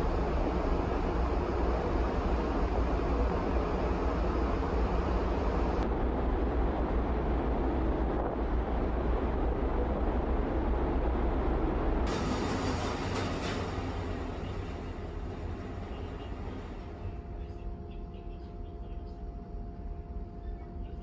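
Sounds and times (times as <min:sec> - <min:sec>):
ship engine rumble: 0:00.0 - 0:20.4.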